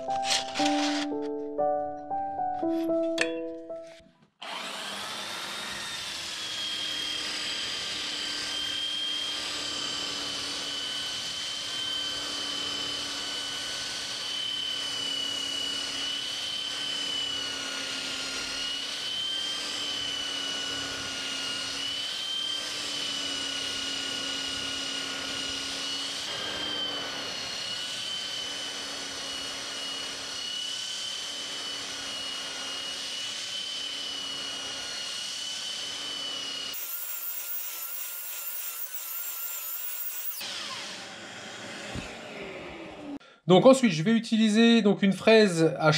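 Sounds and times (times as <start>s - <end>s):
drum sander on wood: 4.4s - 41.9s.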